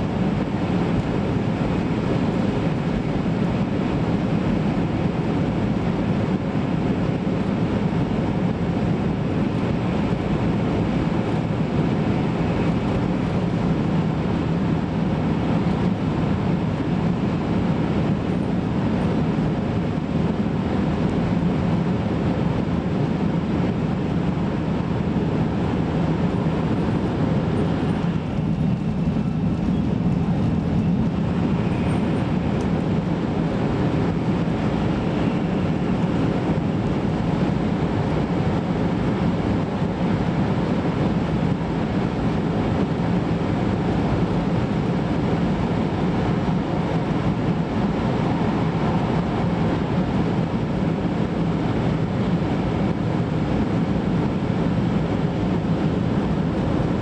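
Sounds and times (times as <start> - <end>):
train rumbling from inside: 0.0 - 57.0.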